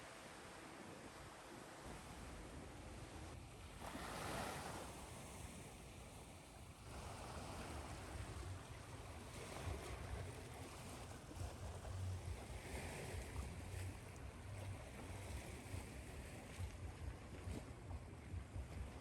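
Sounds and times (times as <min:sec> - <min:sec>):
waves breaking: 0:00.1 - 0:19.0.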